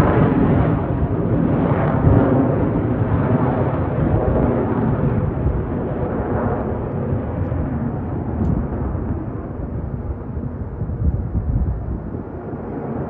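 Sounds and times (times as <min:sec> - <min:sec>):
jet engines roaring past: 0:00.0 - 0:13.0.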